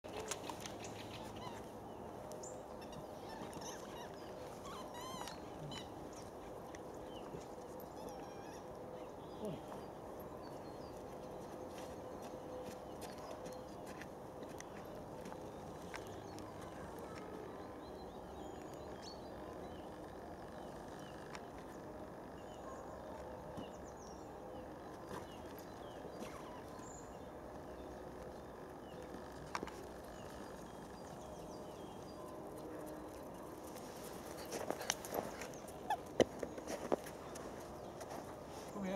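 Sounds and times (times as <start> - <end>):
birds calling: 0.1 - 38.9.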